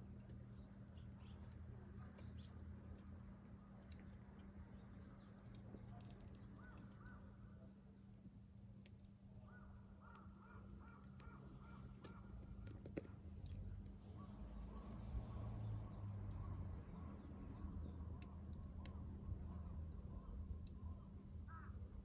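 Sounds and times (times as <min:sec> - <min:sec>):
small wood fire crackling: 0:00.0 - 0:22.0.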